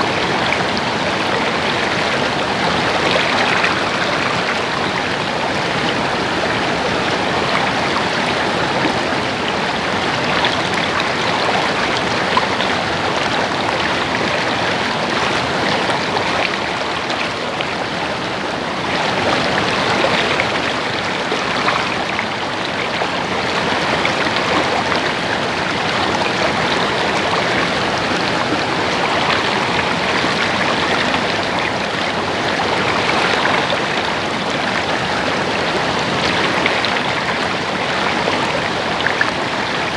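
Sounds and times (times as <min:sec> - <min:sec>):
stream water babbling over rocks: 0:00.0 - 0:39.9.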